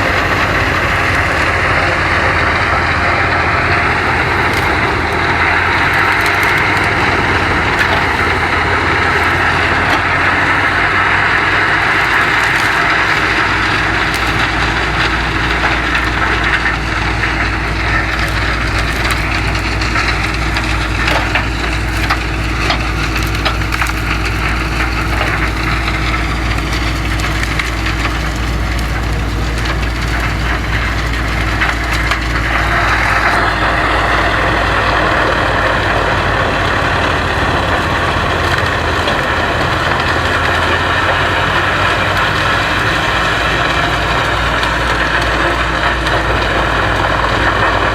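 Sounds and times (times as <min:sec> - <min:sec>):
crackle of splintering wood: 0:00.0 - 0:47.9
wood chipper engine drone: 0:00.0 - 0:47.9.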